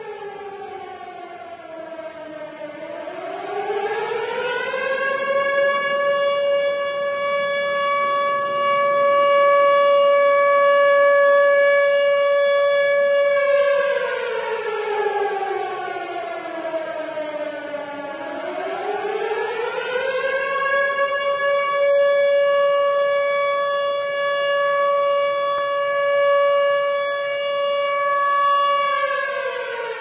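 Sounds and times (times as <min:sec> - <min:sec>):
warning siren wailing: 0:00.0 - 0:30.0.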